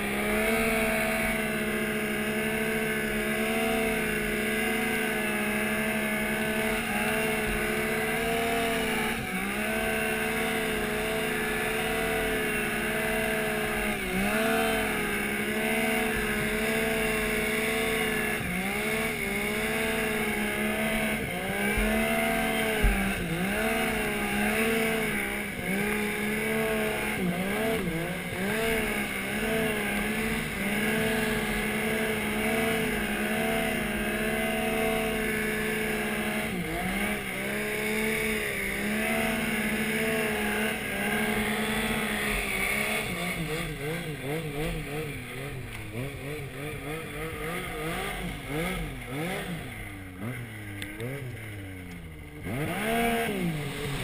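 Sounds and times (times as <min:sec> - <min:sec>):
snowmobile engine revving under load: 0:00.0 - 0:54.0.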